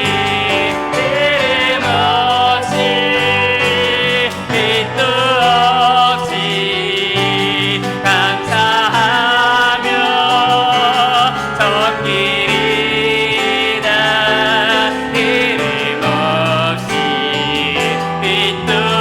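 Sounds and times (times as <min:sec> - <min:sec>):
bass: 0:00.0 - 0:19.0
melody line with vibrato: 0:00.0 - 0:19.0
piano chords: 0:00.0 - 0:19.0.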